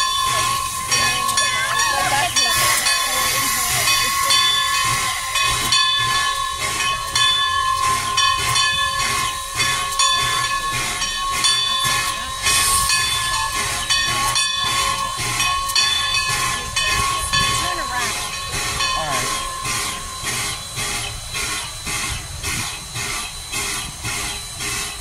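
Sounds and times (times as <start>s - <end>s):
high ringing tone: 0.0s - 25.0s
steam locomotive hissing: 0.0s - 25.0s.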